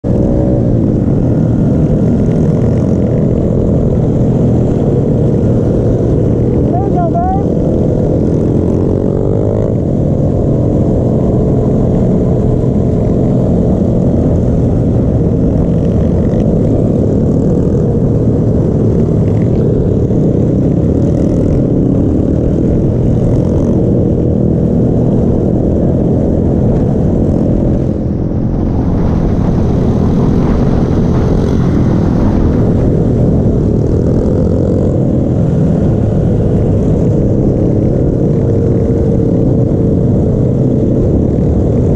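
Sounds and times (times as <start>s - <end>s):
small motorbike engines droning: 0.0s - 41.9s
wind noise on microphone: 0.0s - 41.9s.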